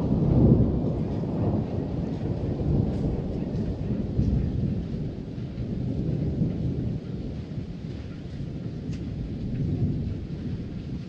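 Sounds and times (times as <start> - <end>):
faint rain: 0.0 - 11.0
thunder rumbling: 0.0 - 11.0.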